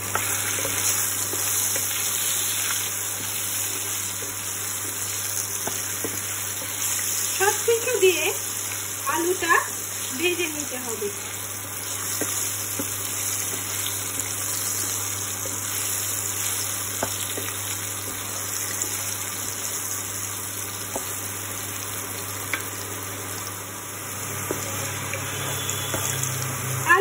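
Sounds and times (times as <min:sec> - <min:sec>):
potatoes sizzling in oil: 0:00.0 - 0:27.0.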